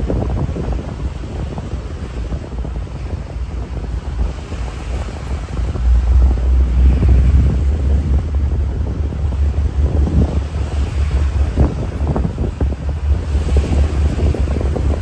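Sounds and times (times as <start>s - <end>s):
deep rumble: 0.0s - 15.0s
rushing sea water: 0.0s - 15.0s
wind buffeting microphone: 0.0s - 15.0s.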